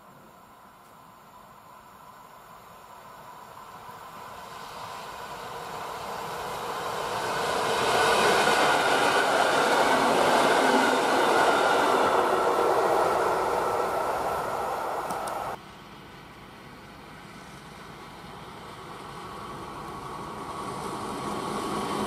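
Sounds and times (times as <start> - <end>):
electric train passing: 0.4 - 22.0.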